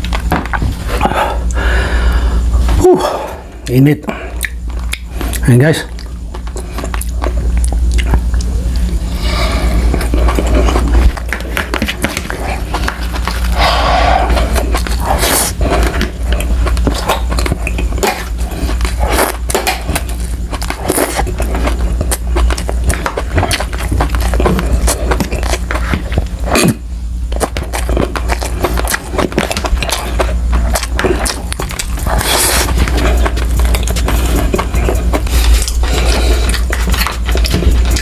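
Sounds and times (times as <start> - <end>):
steady low hum: 0.0 - 38.0
wet chewing and lip smacking: 4.3 - 38.0.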